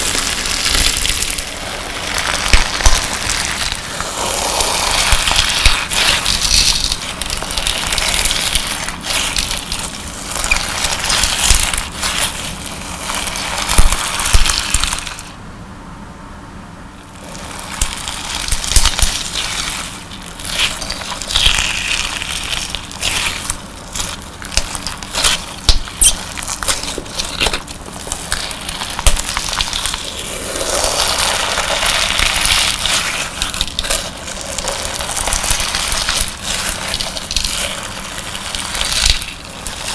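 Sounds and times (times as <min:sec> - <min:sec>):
slime crunching and popping: 0:00.0 - 0:15.4, 0:17.1 - 0:39.9.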